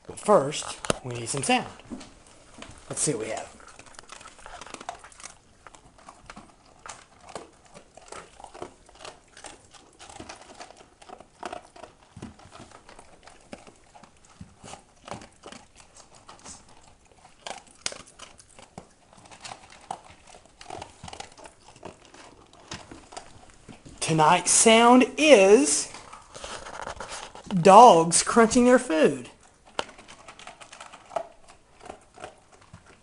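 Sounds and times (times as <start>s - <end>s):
dogs crunching dry kibble: 0.0s - 33.0s.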